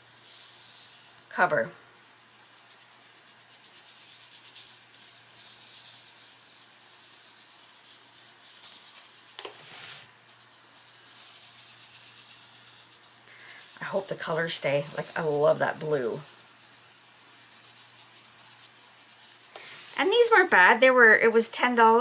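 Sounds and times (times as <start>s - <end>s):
gritty granules pouring: 0.0s - 20.6s.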